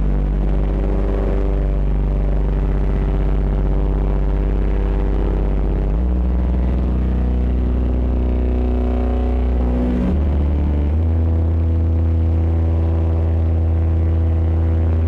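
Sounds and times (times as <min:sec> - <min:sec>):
distorted synthesizer drone: 0:00.0 - 0:15.0.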